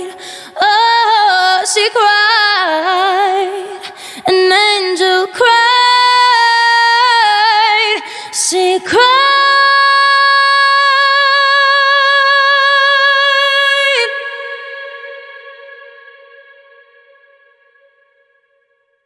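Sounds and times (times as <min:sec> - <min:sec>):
woman singing a cappella: 0:00.0 - 0:17.6.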